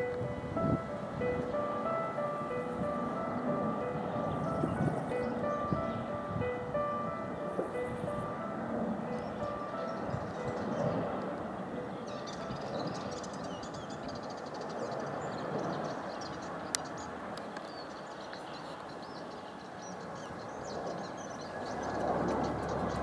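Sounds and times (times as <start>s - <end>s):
distant jet engines roaring: 0.0s - 18.9s, 19.5s - 23.0s
birds twittering faintly: 3.2s - 8.4s, 9.1s - 23.0s.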